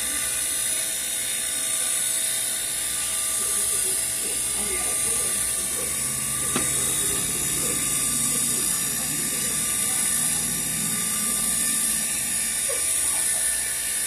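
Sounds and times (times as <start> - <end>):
vacuum pump running: 0.0 - 14.0.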